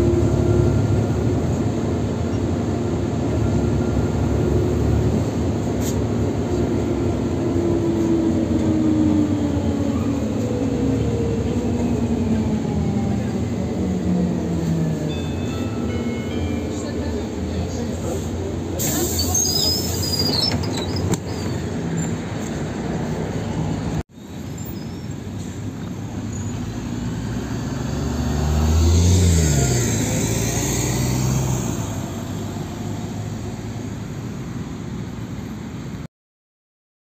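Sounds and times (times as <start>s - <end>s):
diesel bus engine running: 0.0s - 36.0s
bus pulling away: 0.0s - 36.1s.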